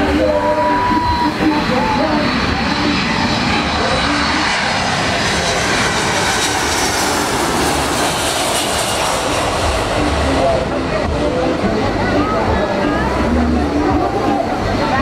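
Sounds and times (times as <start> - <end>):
high engine whine: 0.0 - 15.0
jet engines roaring: 0.0 - 15.0.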